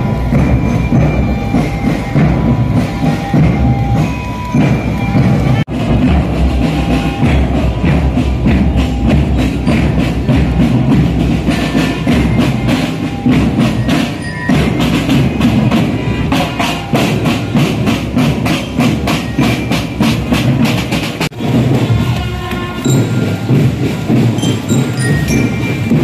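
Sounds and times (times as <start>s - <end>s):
marching snare drums: 0.0s - 26.0s.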